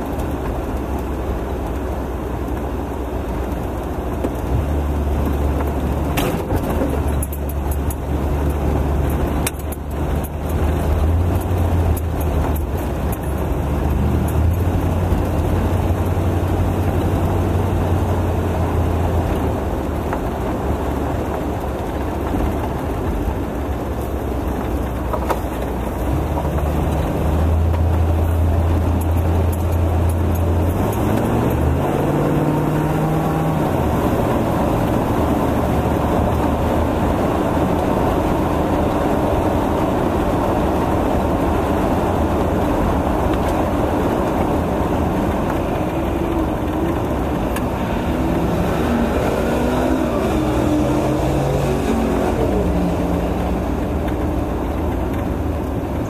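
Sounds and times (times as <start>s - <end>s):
car engine running: 0.0s - 56.0s
tyre and wind noise: 0.0s - 56.0s.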